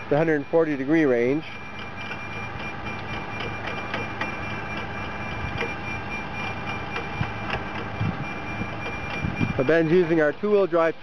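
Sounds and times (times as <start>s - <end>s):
thin steady whine: 0.0s - 11.0s
tractor engine under load: 0.0s - 11.0s
light irregular ticking: 1.4s - 10.6s.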